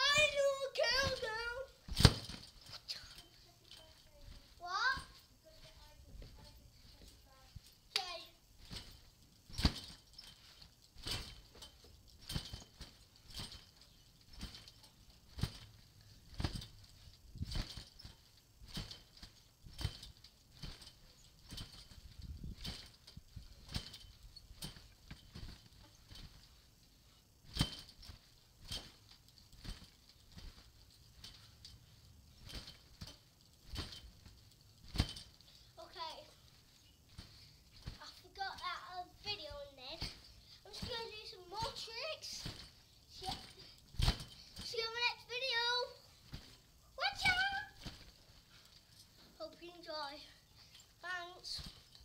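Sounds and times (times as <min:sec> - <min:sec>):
thumps on trampoline mat: 0:00.0 - 0:26.7, 0:27.4 - 0:35.6, 0:39.1 - 0:48.6.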